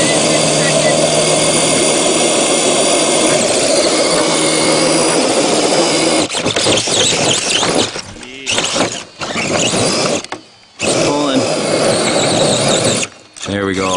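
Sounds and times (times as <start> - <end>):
small electric motor whirring: 0.0 - 13.9.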